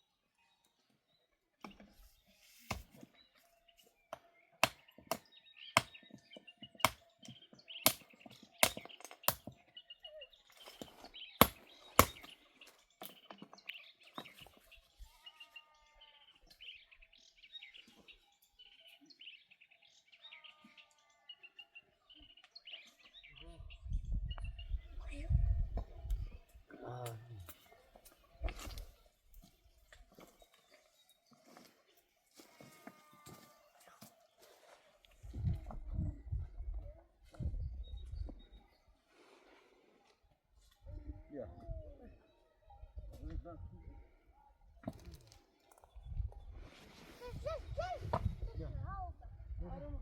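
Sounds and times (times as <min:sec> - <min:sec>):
small birds chirping: 0:00.0 - 0:49.5.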